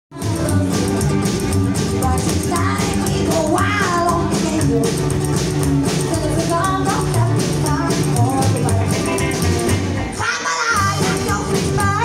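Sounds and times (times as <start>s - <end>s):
woman singing: 0.1s - 5.3s, 5.9s - 9.5s, 10.1s - 12.0s
rockabilly band playing: 0.1s - 12.0s.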